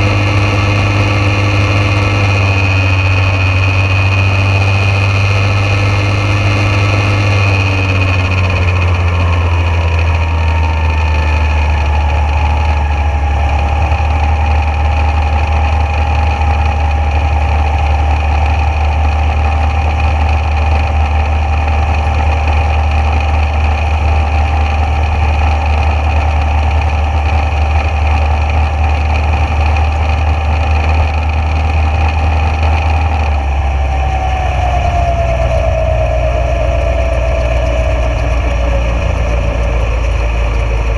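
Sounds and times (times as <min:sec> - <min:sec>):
dragster engine idling: 0:00.0 - 0:40.9.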